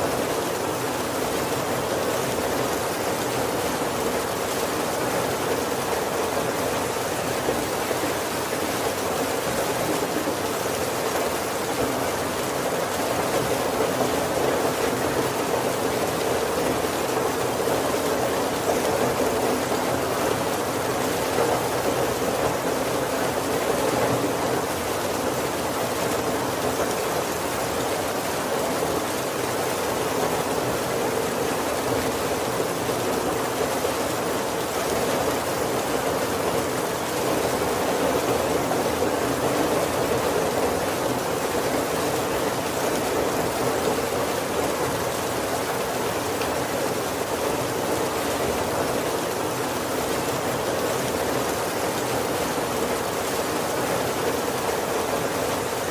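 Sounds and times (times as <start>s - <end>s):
heavy rain on a roof: 0.0s - 55.9s.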